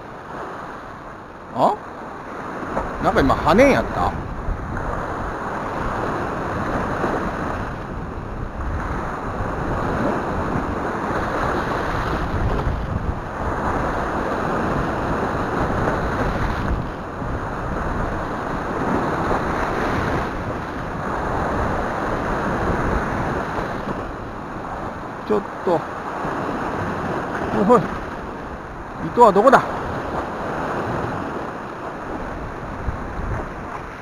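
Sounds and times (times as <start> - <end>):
sea waves breaking on rocks: 0.0 - 34.0
wind buffeting microphone: 2.0 - 25.2, 25.9 - 34.0.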